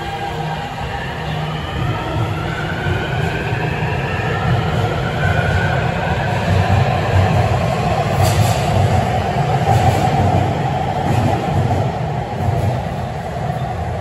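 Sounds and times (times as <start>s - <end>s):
subway train rumbling past: 0.0s - 14.0s.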